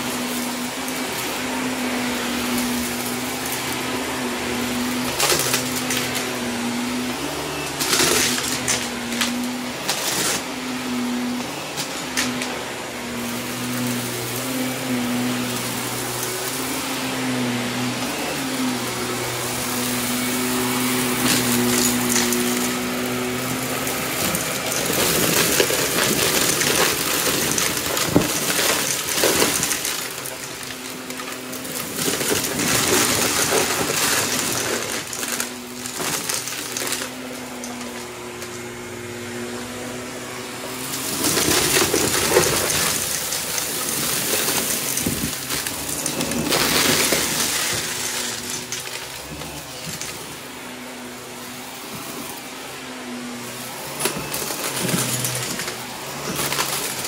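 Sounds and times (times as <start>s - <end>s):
debris rattling up vacuum nozzle: 0.0s - 38.8s, 40.2s - 57.0s
vacuum cleaner motor humming: 0.0s - 57.0s.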